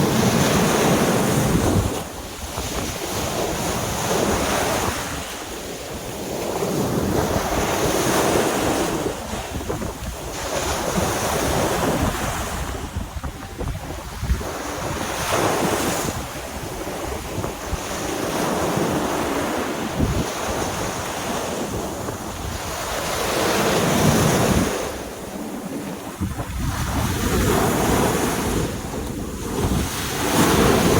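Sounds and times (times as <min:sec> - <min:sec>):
surf breaking on beach: 0:00.0 - 0:30.9
wind buffeting microphone: 0:00.0 - 0:30.9.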